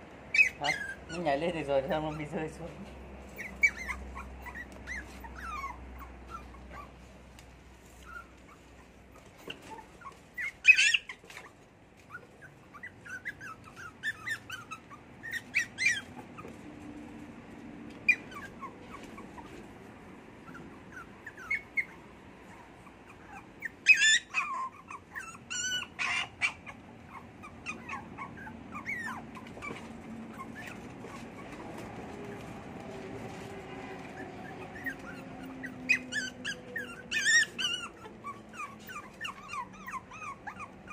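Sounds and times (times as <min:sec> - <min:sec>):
puppies whimpering and yipping: 0:00.3 - 0:02.5, 0:03.2 - 0:07.2, 0:07.8 - 0:16.8, 0:17.9 - 0:40.9.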